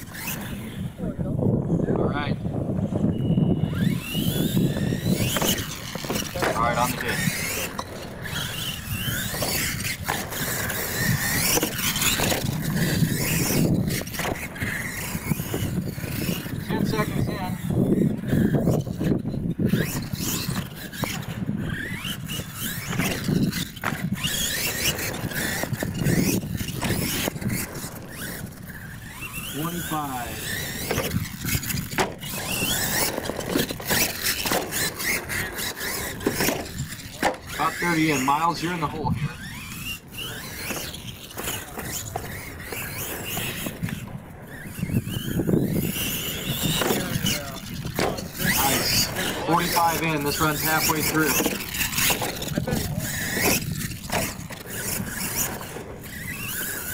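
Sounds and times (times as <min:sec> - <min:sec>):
toy truck motor whining: 0:00.0 - 0:01.1, 0:02.8 - 0:56.9
tires scrabbling over dirt: 0:00.0 - 0:56.9.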